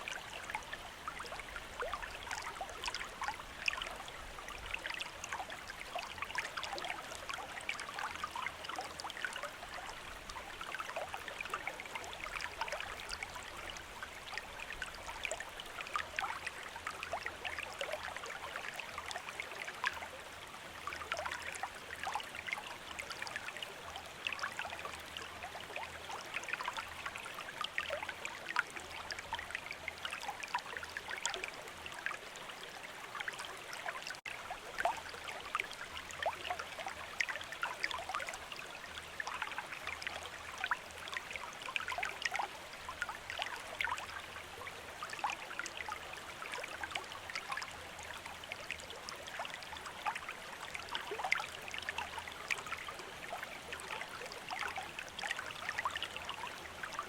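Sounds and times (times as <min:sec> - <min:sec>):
stream running over stones: 0:00.0 - 0:57.0.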